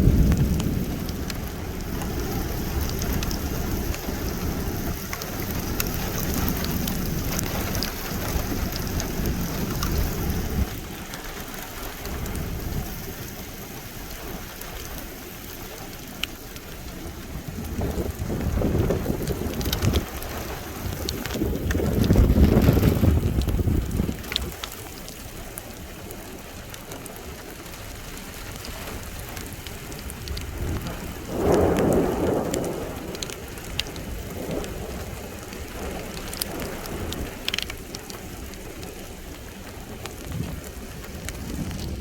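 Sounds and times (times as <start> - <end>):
thunder rumbling: 0.0 - 25.3, 28.0 - 42.0
rain falling steadily: 0.0 - 42.0.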